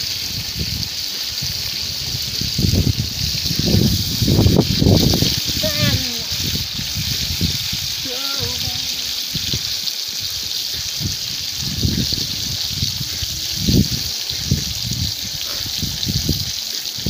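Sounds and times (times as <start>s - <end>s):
steady rushing hiss: 0.0s - 17.0s.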